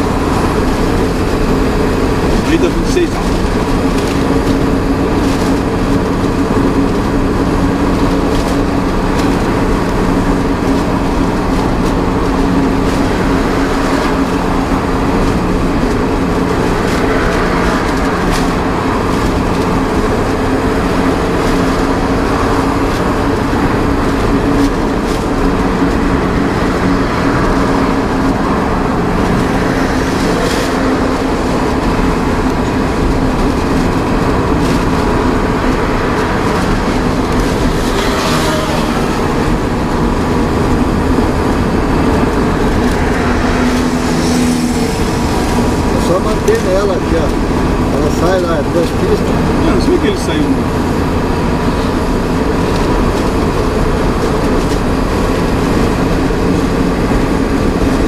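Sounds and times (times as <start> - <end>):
road noise: 0.0 - 58.0
truck engine drone: 0.0 - 58.0.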